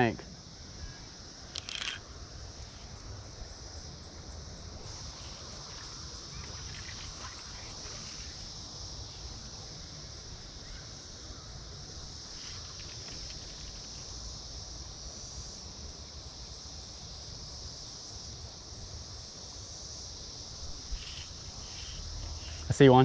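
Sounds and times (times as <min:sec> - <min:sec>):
cicadas chorus: 0:00.0 - 0:23.0.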